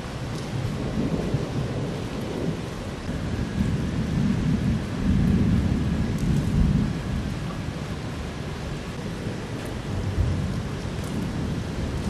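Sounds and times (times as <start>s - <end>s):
rolling thunder rumbling: 0.0s - 7.9s, 8.8s - 12.0s.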